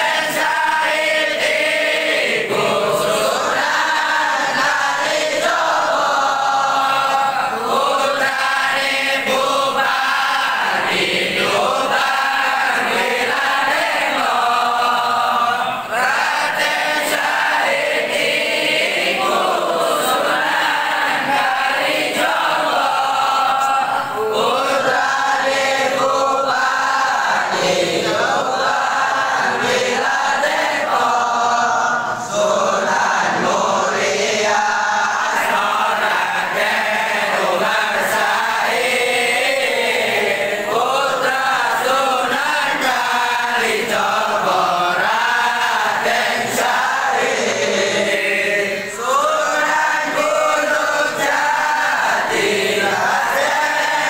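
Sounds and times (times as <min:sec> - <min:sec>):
men chanting in unison: 0:00.0 - 0:54.0.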